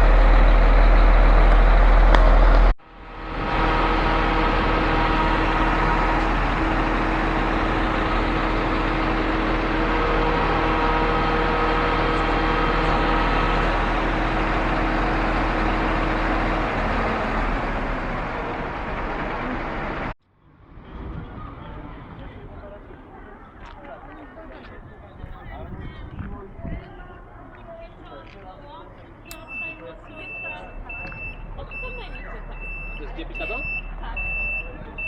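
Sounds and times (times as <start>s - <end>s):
diesel truck engine running: 0.0s - 23.7s, 24.3s - 35.0s.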